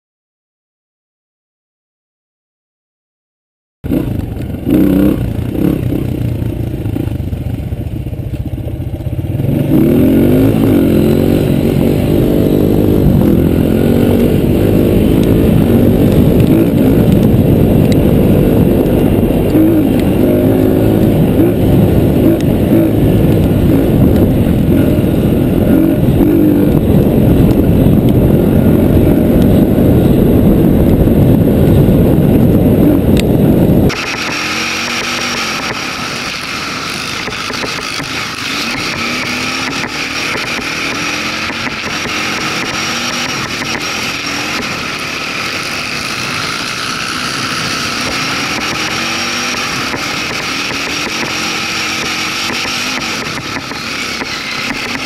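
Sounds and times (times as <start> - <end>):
dirt bike engine revving: 3.9 - 7.2, 9.3 - 55.0.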